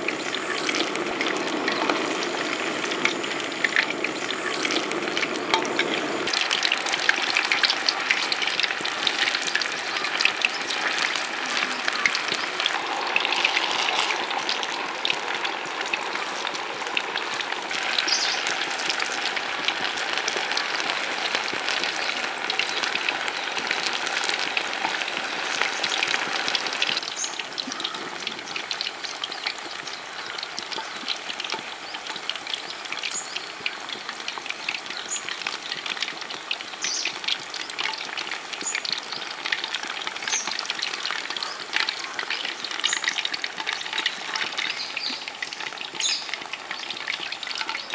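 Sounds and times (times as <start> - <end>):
food deep-frying in hot oil: 0.0 - 47.9.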